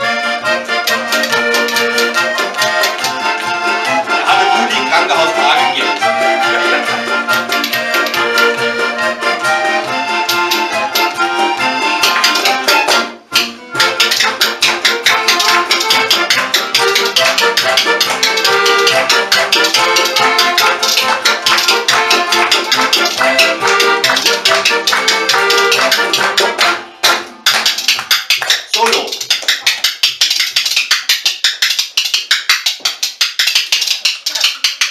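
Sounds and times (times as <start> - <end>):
accordion polka: 0.0 - 29.2
spoons clacking: 0.8 - 34.9.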